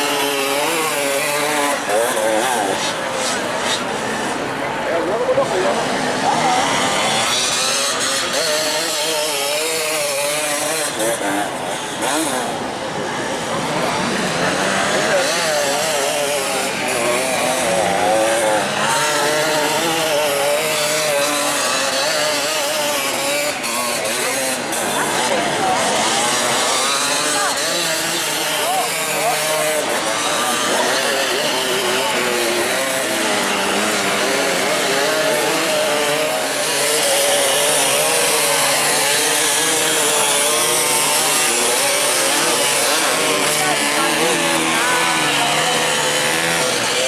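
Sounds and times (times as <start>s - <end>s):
dirt bike engines revving: 0.0s - 47.0s.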